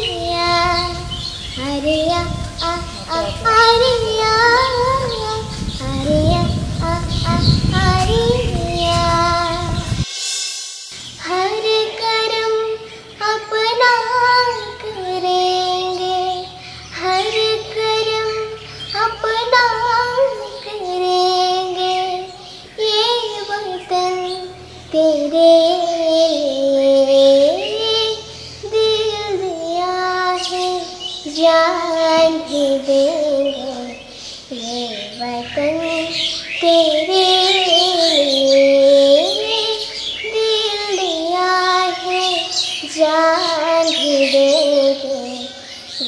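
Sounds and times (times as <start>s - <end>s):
girl singing: 0.0s - 10.1s, 11.0s - 46.0s.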